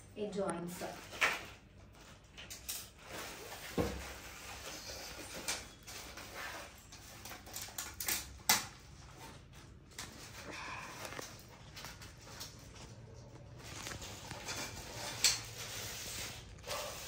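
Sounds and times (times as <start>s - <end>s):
packaging rustling: 0.8s - 16.9s.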